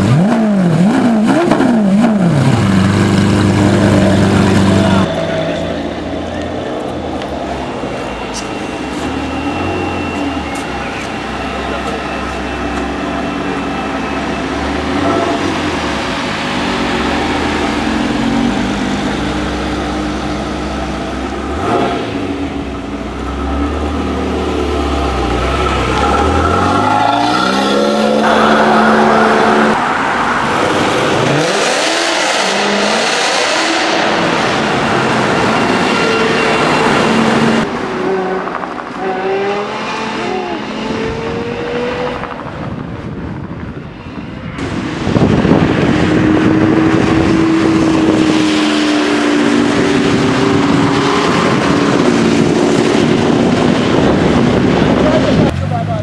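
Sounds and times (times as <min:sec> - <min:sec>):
supercar engines revving: 0:00.0 - 0:56.0.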